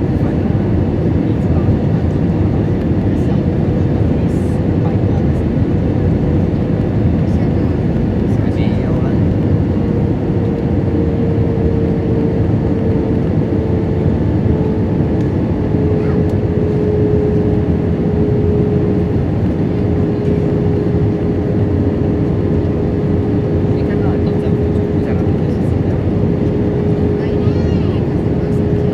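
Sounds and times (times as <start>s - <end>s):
jet engines humming: 0.0s - 28.9s
steady engine tone: 0.0s - 28.9s.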